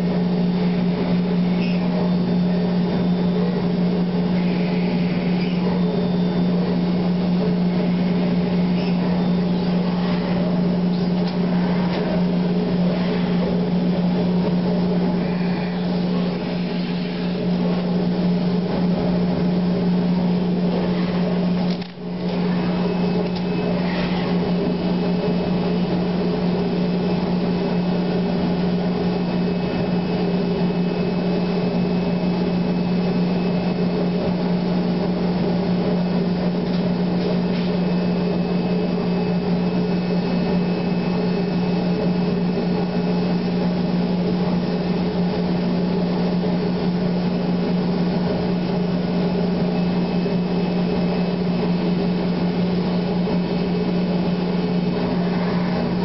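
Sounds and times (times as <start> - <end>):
router machinery humming: 0.0 - 56.0.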